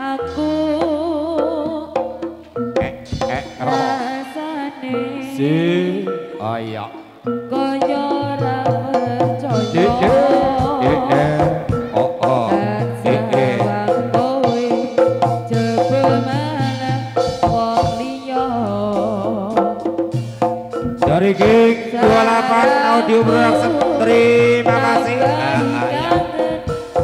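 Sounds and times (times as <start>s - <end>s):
melodic instruments: 0.0s - 27.0s
hand drums playing a beat: 0.4s - 6.2s, 7.2s - 27.0s.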